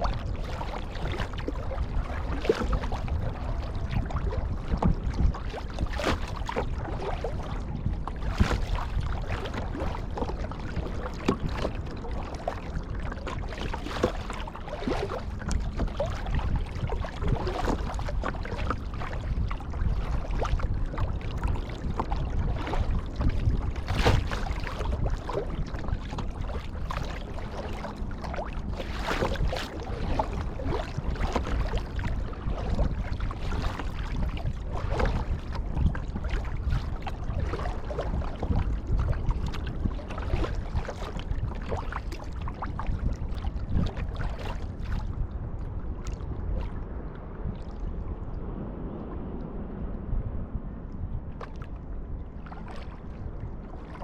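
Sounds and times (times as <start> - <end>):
paddle splashing in water: 0.0 - 45.2, 46.0 - 46.8, 51.4 - 51.8, 52.4 - 54.0
water washing along hull: 0.0 - 54.0
wind rumbling on microphone: 0.0 - 54.0.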